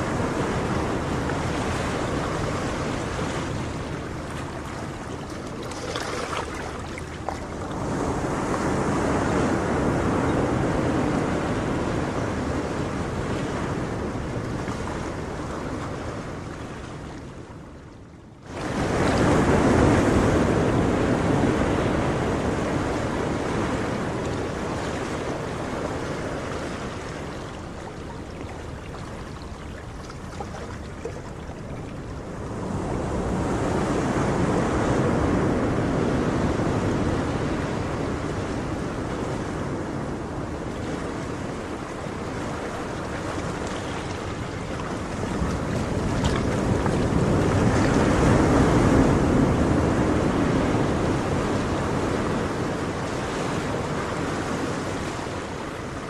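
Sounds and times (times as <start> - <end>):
ocean waves washing: 0.0 - 56.0.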